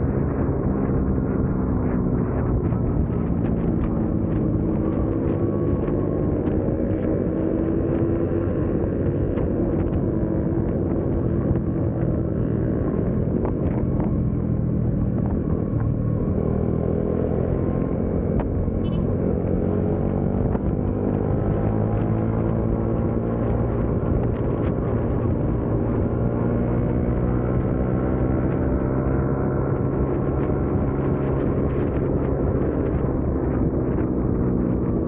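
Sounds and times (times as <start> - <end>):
motorcycle engine running: 0.1 - 35.0.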